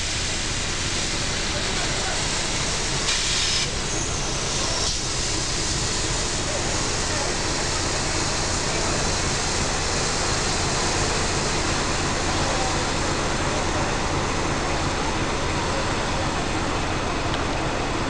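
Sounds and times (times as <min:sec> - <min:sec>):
steam hissing from locomotive: 0:00.0 - 0:18.0.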